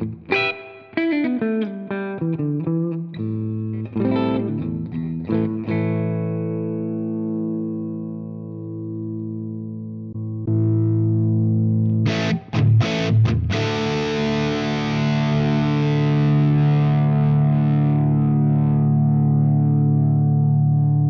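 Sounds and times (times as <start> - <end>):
distorted electric guitar chords: 0.0 - 21.0.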